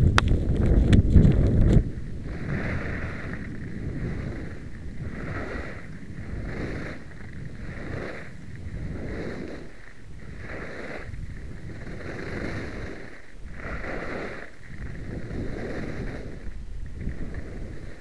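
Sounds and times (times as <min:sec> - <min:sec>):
skis scraping over snow: 0:00.0 - 0:18.0
wind rumble on microphone: 0:00.0 - 0:18.0.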